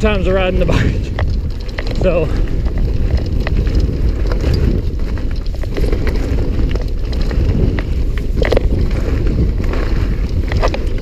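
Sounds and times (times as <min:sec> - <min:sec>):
bike clicks and rattles: 0:00.0 - 0:11.0
wind rushing over microphone: 0:00.0 - 0:11.0.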